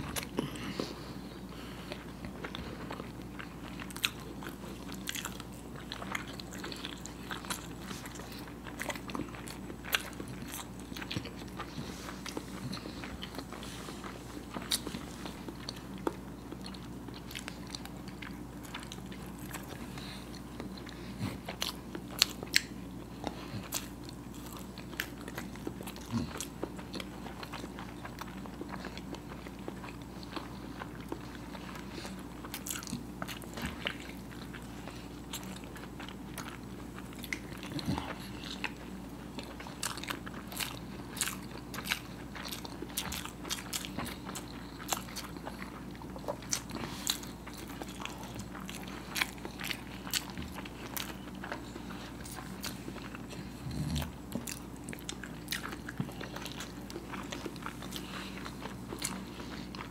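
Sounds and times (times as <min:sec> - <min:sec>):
biting and chewing eggs: 0:00.0 - 0:59.9.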